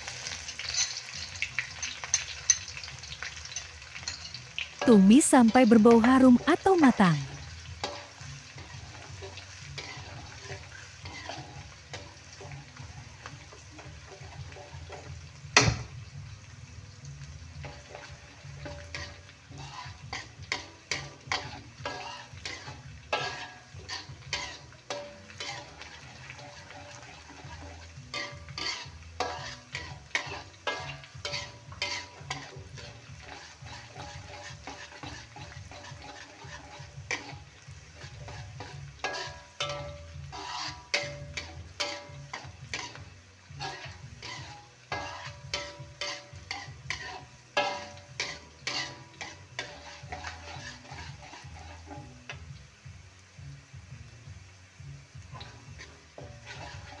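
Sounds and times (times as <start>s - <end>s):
metal spatula scraping a wok: 0.0s - 52.7s, 55.0s - 57.0s
garlic sizzling in oil: 0.0s - 57.0s.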